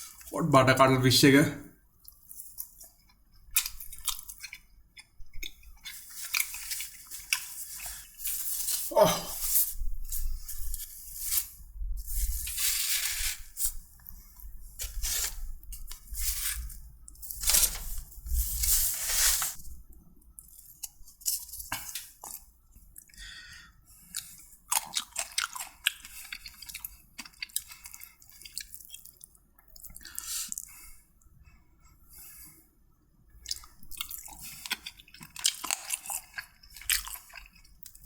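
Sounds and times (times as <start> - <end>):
person chewing and crunching food: 0.0 - 0.3, 1.9 - 32.6, 33.3 - 38.0.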